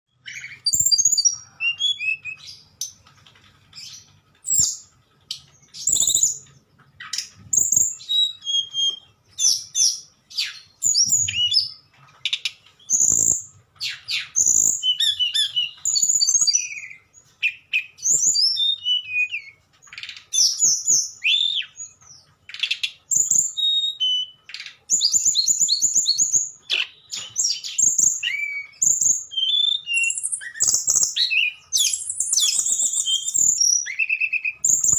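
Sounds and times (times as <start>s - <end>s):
bird singing flute-like song: 0.1s - 2.9s, 3.8s - 34.9s.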